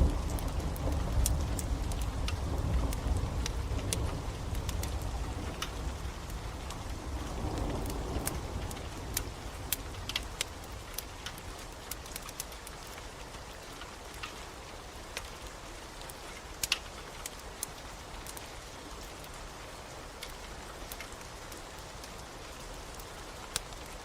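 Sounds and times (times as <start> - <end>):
wood fire crackling and popping: 0.0 - 19.4, 20.1 - 24.0
rain hiss: 0.0 - 24.0.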